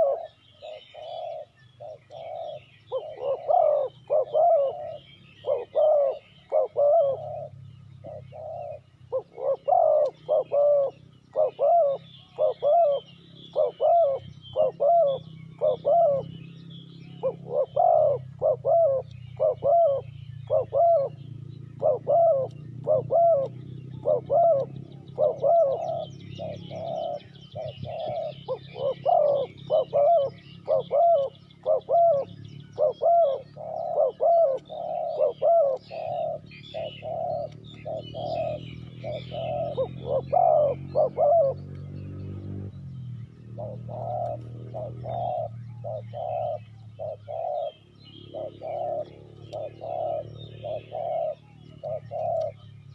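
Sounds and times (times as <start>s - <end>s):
dove cooing: 0.0s - 52.9s
small birds chirping: 0.0s - 52.9s.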